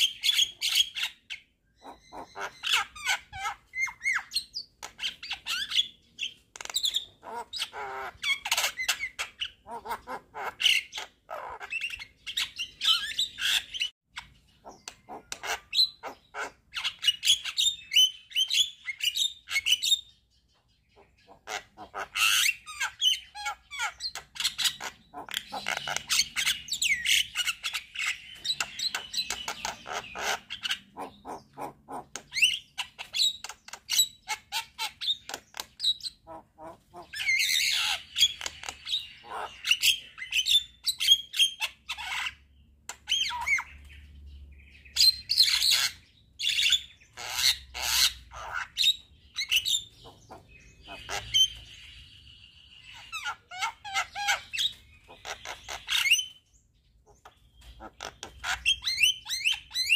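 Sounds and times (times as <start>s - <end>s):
bird singing with clicks and squawks: 0.0s - 59.9s.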